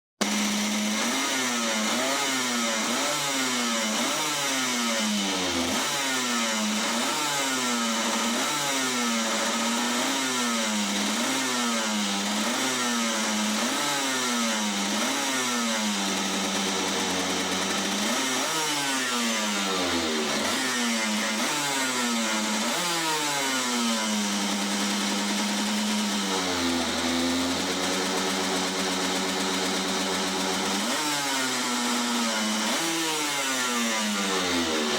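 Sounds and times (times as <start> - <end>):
kart engine revving: 0.2 - 34.9.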